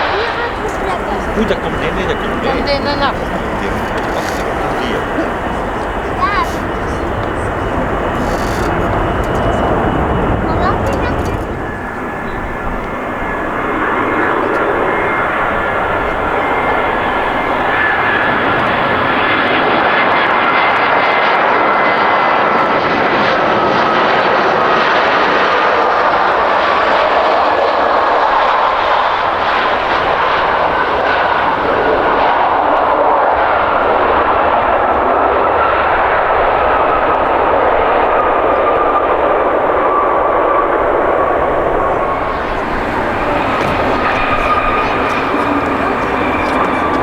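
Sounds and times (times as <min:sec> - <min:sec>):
high jet engine whine: 0:00.0 - 0:47.0
jet engines rushing: 0:00.0 - 0:47.0.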